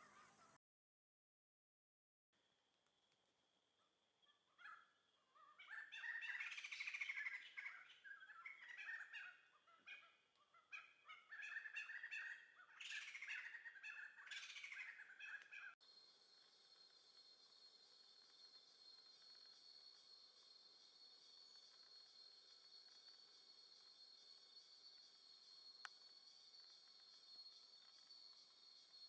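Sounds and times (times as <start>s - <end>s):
songbird chirping and trilling: 0.0s - 0.6s, 3.8s - 29.0s.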